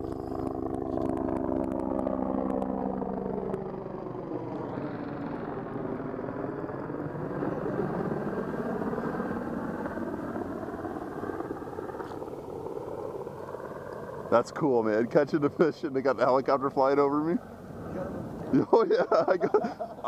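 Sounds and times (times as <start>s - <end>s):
helicopter flying overhead: 0.0s - 20.0s.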